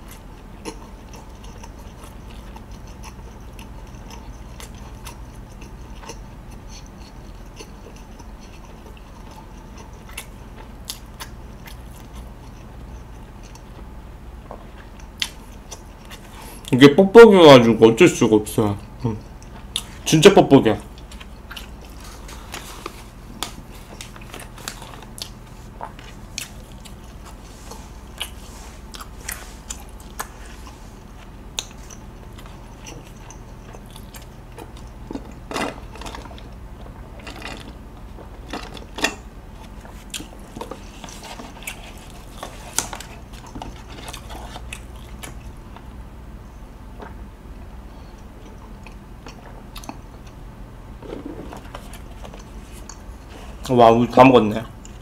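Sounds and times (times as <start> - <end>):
chewing and swallowing: 0.0 - 16.7, 18.8 - 20.1, 20.8 - 45.9, 48.0 - 53.7.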